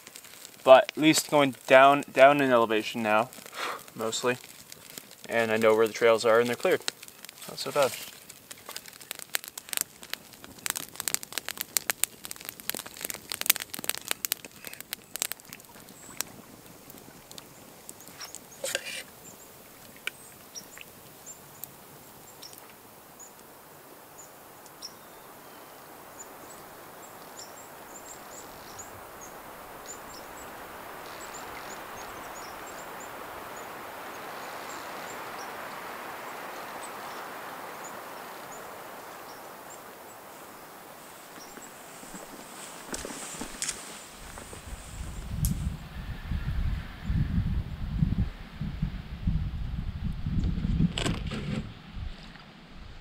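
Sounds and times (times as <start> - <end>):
campfire crackling and popping: 0.0 - 46.0
steady hiss: 0.0 - 49.0.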